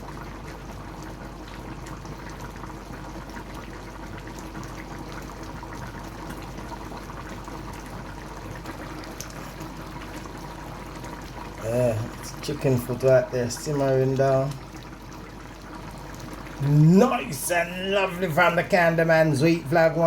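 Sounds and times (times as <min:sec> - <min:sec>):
liquid bubbling in a pot: 0:00.0 - 0:20.0.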